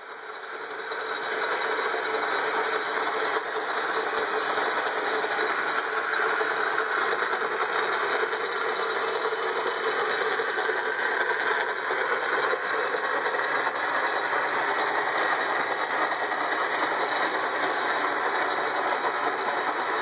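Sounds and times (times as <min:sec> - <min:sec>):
belt-driven lathe running: 0:00.0 - 0:20.0.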